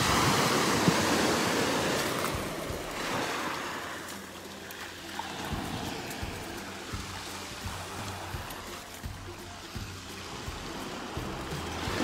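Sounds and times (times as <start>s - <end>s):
surf washing up shore: 0.0s - 12.0s.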